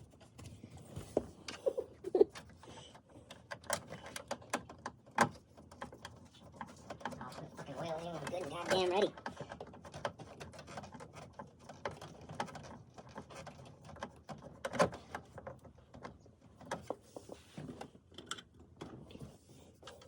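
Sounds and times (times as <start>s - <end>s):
faint clicks and light knocks: 2.3s - 20.0s.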